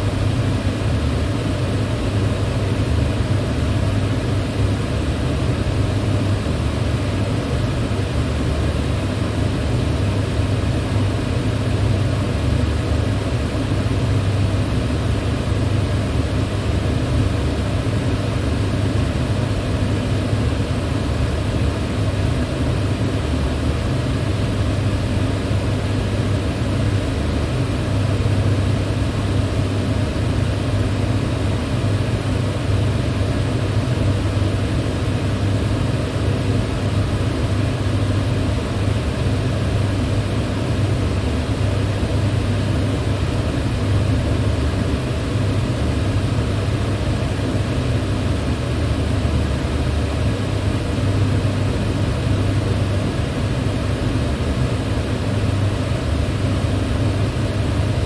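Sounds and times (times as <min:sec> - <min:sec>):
electric fan running: 0:00.0 - 0:58.0.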